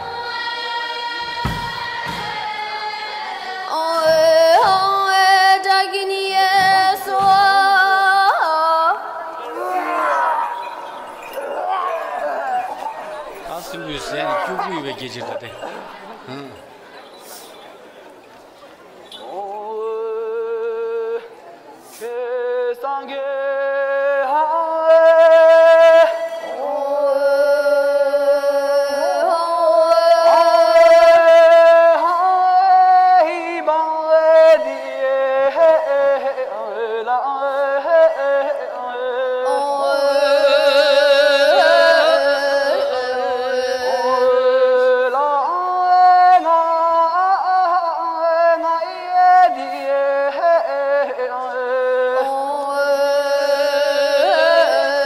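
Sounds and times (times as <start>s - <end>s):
person singing ornamented notes: 0.0s - 16.7s, 22.0s - 55.0s.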